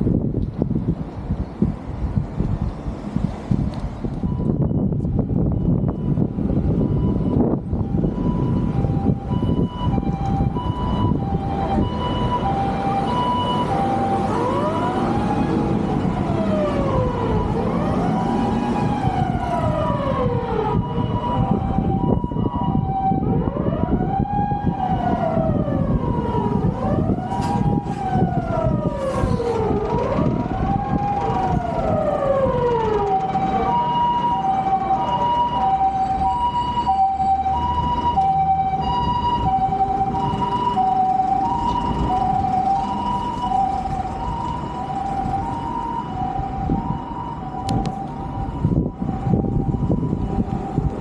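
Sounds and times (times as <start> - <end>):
traffic rumble: 0.0 - 51.0
ambulance siren two-note pattern: 4.2 - 51.0
wailing siren sweeping: 4.2 - 51.0.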